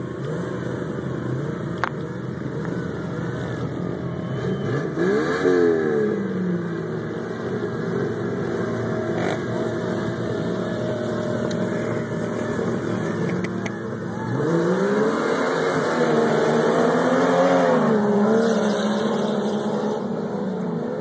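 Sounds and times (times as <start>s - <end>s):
engines accelerating hard: 0.0s - 21.0s.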